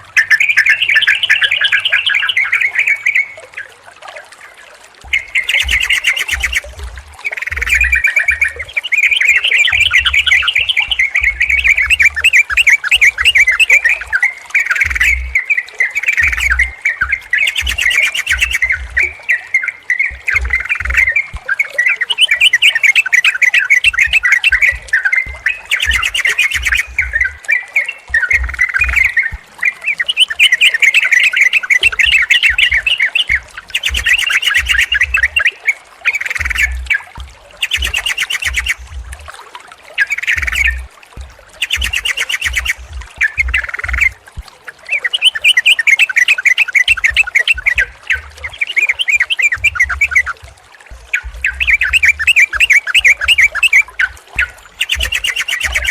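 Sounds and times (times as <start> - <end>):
bulbuls chattering: 5.0 - 39.2, 40.0 - 55.9.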